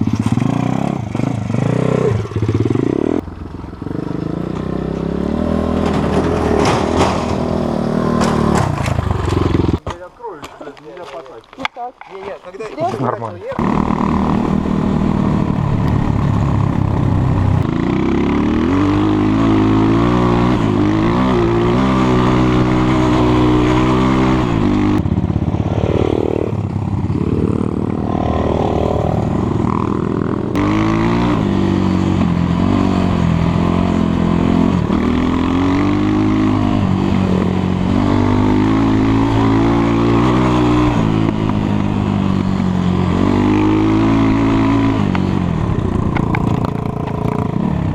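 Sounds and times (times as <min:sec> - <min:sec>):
motorcycle engine revving: 0:00.0 - 0:09.8, 0:13.5 - 0:47.9.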